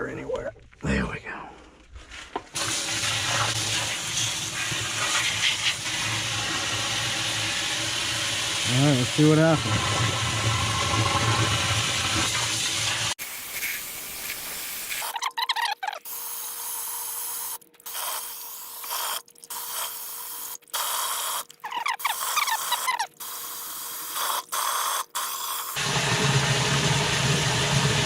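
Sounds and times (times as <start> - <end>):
water spraying into basin: 2.6 - 15.7, 17.8 - 24.5, 25.3 - 28.0.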